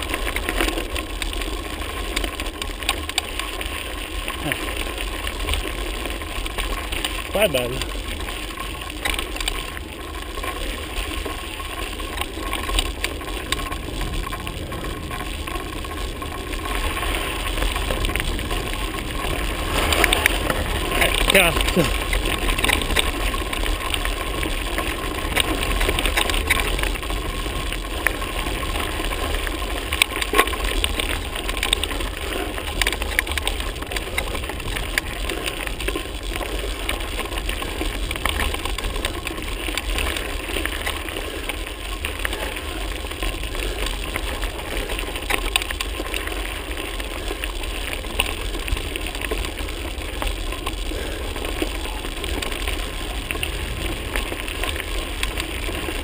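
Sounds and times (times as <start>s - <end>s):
bike clicks and rattles: 0.0s - 56.0s
low wind rumble: 0.0s - 56.0s
tyres crunching on stones: 0.0s - 56.0s.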